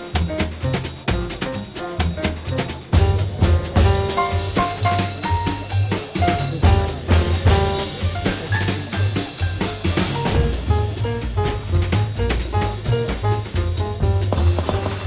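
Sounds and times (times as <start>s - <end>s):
upbeat instrumental music: 0.0s - 15.0s.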